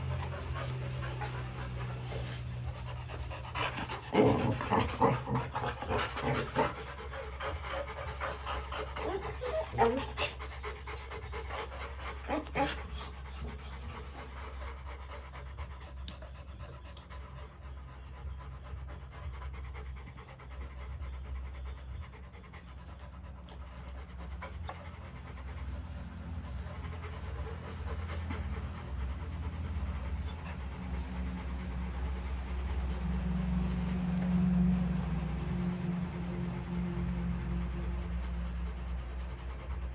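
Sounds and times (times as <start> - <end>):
low rumble: 0.0 - 39.9
puppies panting: 0.0 - 39.9.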